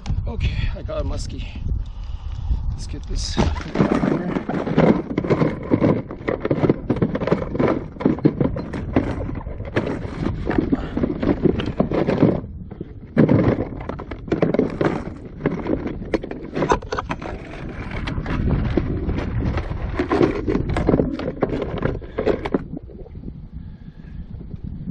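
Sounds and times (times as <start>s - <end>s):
knocking and scraping on a kayak: 3.0s - 24.6s.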